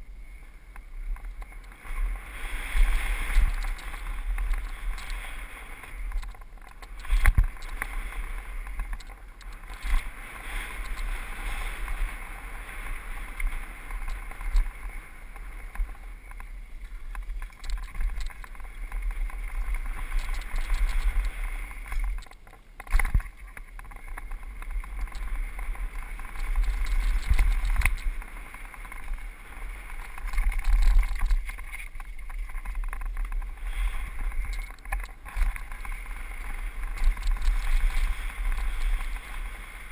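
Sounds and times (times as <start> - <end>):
bike rattling: 1.0 - 39.9
wind buffeting microphone: 1.0 - 39.9.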